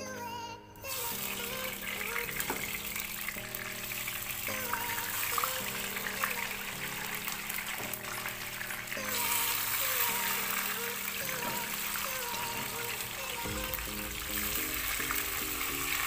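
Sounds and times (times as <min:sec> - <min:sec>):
background music: 0:00.0 - 0:16.0
food sizzling in hot oil: 0:00.9 - 0:16.0.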